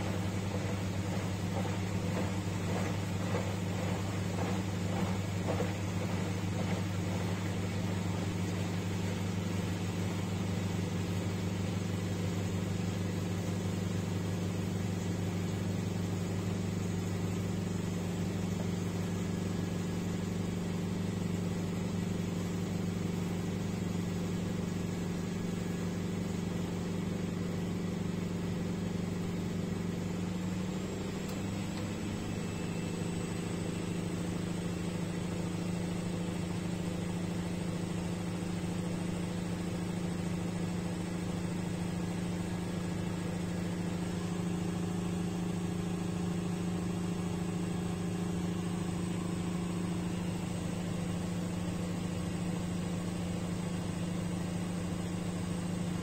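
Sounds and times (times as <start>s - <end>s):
washer-dryer motor hum: 0.0s - 56.0s
water in drum: 0.0s - 56.0s.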